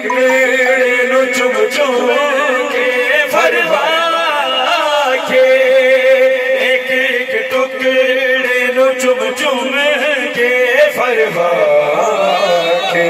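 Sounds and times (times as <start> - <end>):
man chanting through loudspeaker: 0.0 - 13.0.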